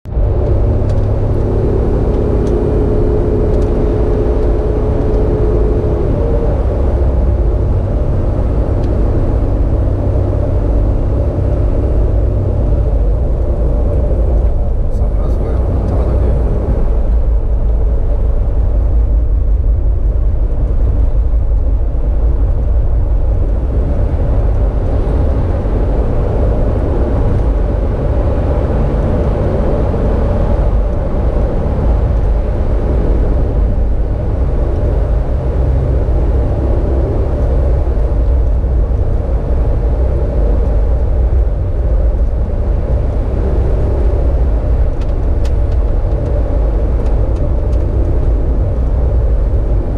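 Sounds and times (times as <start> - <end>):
road vehicle low rumble: 0.0 - 49.9.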